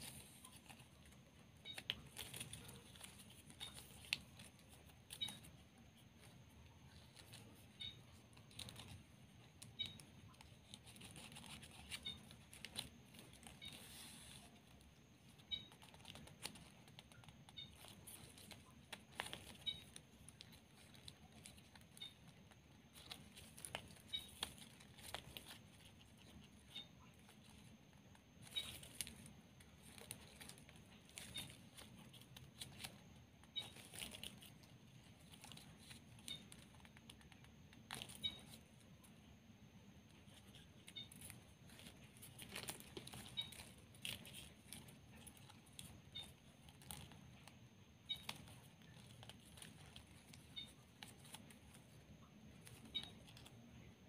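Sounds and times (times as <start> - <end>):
plastic ribbon rustling: 0.0 - 39.2, 40.1 - 53.8.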